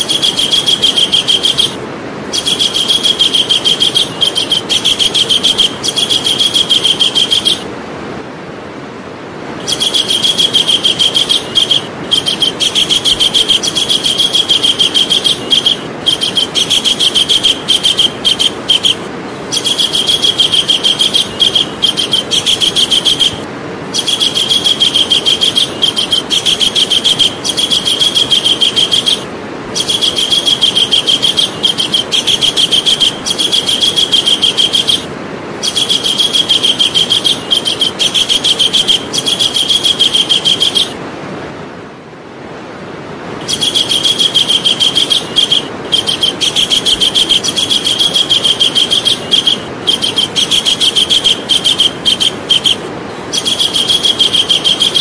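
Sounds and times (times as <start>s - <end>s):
kingfisher rattling trill: 0.0s - 7.7s, 9.6s - 41.0s, 43.4s - 55.0s.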